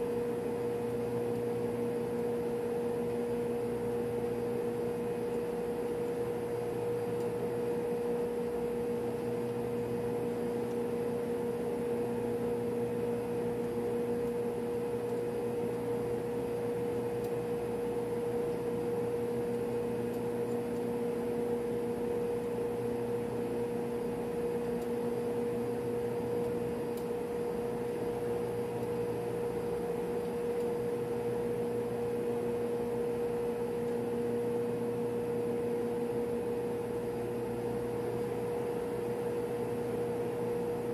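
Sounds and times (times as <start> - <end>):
machinery and ventilation drone: 0.0 - 40.9.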